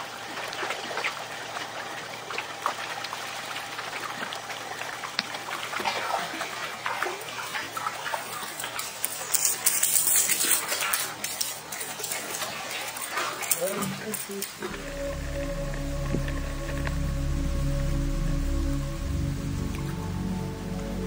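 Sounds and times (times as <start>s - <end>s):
water splashing and dripping: 0.0s - 21.0s.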